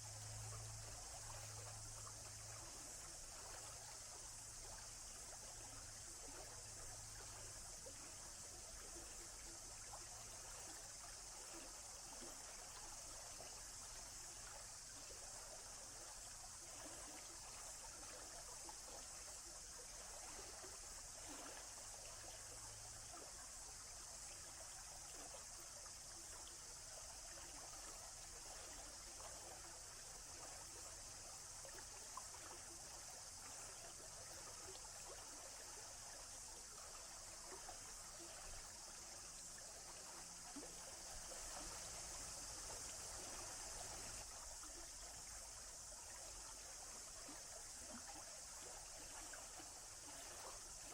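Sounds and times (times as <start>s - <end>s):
stream trickling: 0.0s - 50.9s.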